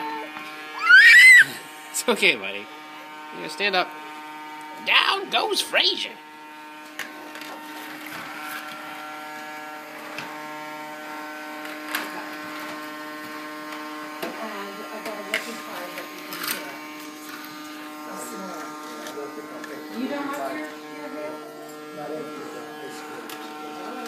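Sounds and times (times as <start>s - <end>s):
toy vacuum motor buzzing: 0.0s - 24.0s.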